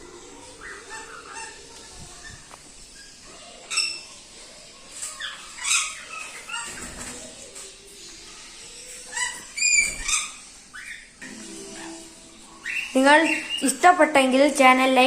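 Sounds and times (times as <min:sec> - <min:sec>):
parrots squawking: 0:00.0 - 0:04.3, 0:05.1 - 0:07.5, 0:08.4 - 0:14.0.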